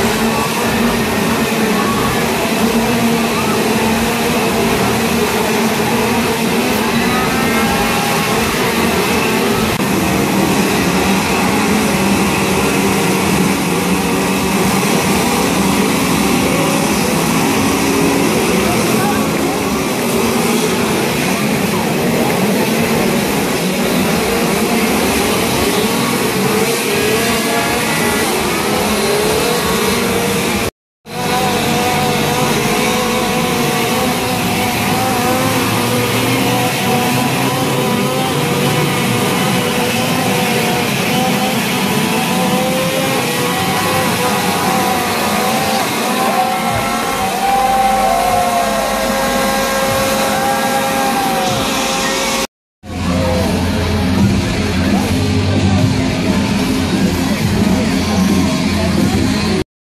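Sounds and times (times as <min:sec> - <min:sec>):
chainsaws running: 0:00.0 - 0:59.6
dense background din: 0:00.0 - 0:59.6
loud engine-like drone: 0:00.0 - 0:59.6.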